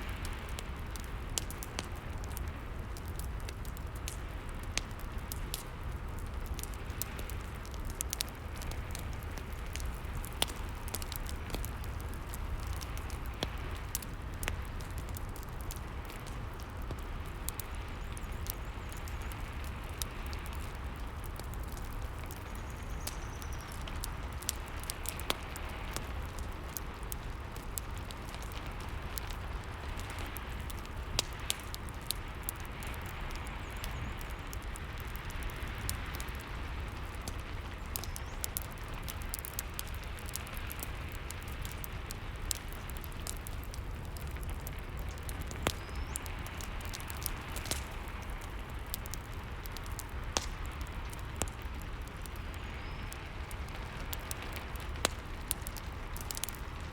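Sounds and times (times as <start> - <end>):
fire crackling: 0.0 - 56.9
rain falling: 0.0 - 56.9.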